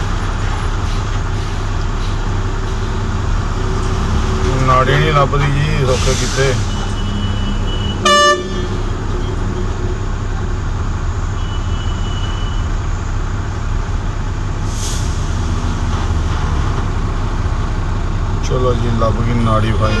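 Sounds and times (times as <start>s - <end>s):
heavy vehicles passing: 0.0s - 20.0s.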